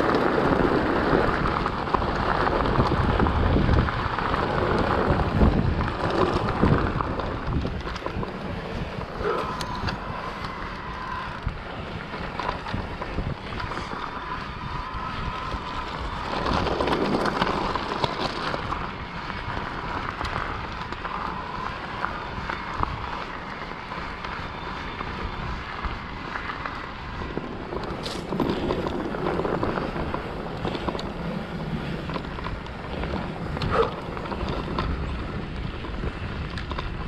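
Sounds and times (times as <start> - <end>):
bike rattling: 0.0 - 37.0
bike tyres crunching on gravel: 0.0 - 37.0
wind buffeting microphone: 0.0 - 37.0.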